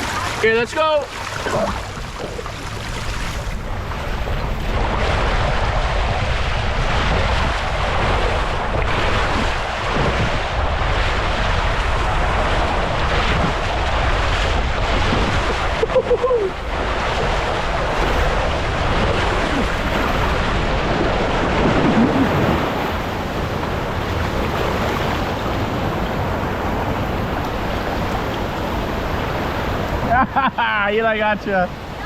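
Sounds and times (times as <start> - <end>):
water slide water rushing: 0.0 - 32.0
wind buffeting microphone: 0.0 - 32.0.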